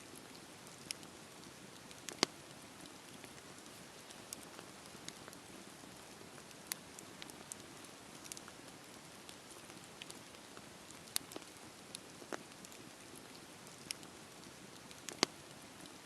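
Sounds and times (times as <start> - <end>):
fire crackles and pops: 0.1 - 16.0
campfire hissing: 0.2 - 16.0.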